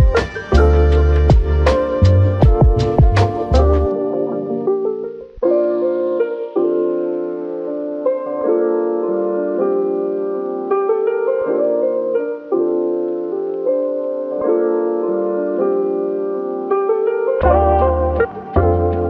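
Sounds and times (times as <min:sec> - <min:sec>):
calm instrumental music: 0:00.0 - 0:19.0.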